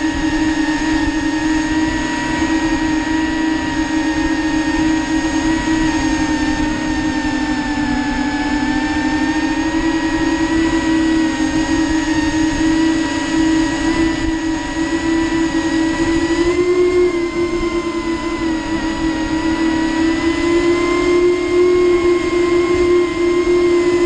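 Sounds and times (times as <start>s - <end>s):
drone motors whining: 0.0s - 24.0s
low wind noise: 0.0s - 24.0s.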